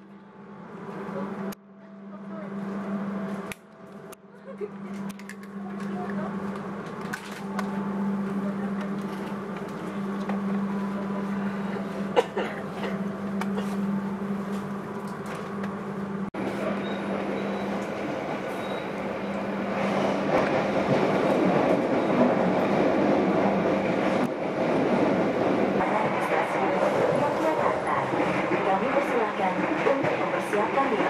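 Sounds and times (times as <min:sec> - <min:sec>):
train carriage hum: 0:00.0 - 0:31.0
train running noise: 0:00.0 - 0:31.0.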